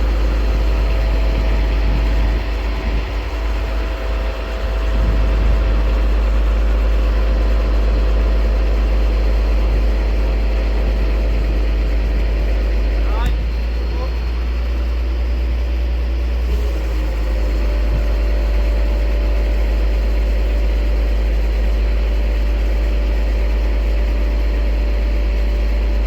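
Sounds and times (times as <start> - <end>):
constant hum: 0.0 - 26.0
crane engine rumbling: 0.0 - 26.0.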